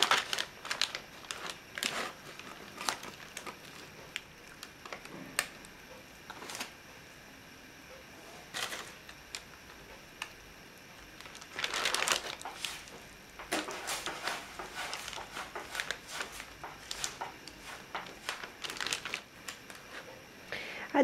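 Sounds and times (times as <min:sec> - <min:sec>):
baking parchment crinkling: 0:00.0 - 0:06.7, 0:08.5 - 0:10.4, 0:11.0 - 0:20.2.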